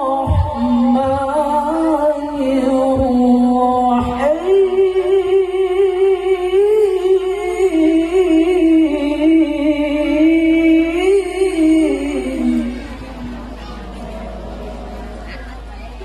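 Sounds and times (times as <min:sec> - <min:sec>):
man chanting through loudspeakers: 0:00.0 - 0:13.5.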